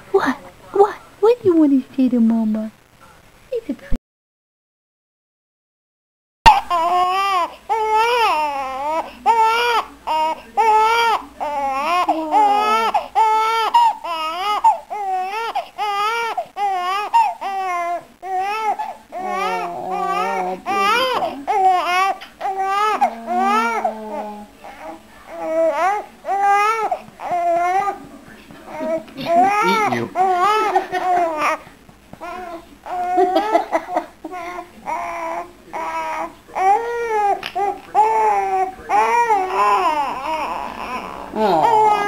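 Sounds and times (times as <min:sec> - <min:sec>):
baby crying: 0:06.5 - 0:28.0, 0:28.7 - 0:31.6, 0:32.2 - 0:42.0.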